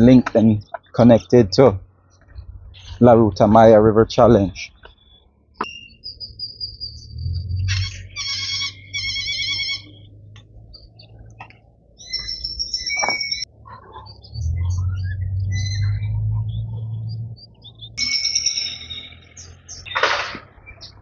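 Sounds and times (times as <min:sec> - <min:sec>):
low steady rumble: 0:00.0 - 0:12.8, 0:13.4 - 0:18.0
birds whistling and warbling: 0:00.0 - 0:21.0.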